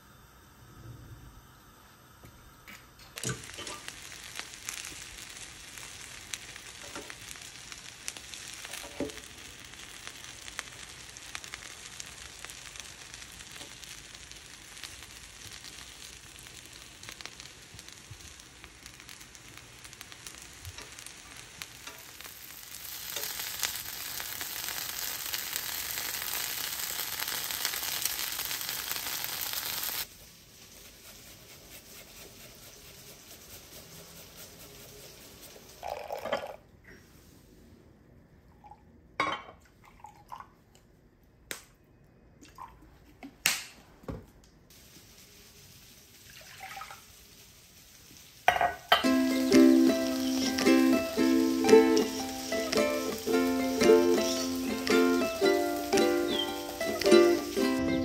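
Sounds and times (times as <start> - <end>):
slices frying in oil: 3.0 - 36.2, 44.7 - 58.0.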